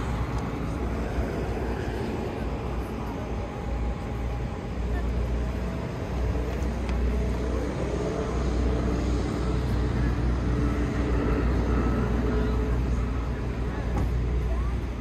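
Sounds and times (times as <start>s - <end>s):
people talking: 0.0s - 15.0s
steady low rumble: 0.0s - 15.0s.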